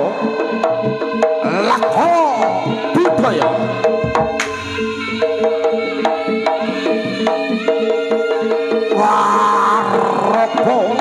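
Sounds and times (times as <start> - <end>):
gamelan music: 0.1 - 9.0
hand drum strokes: 1.4 - 11.0.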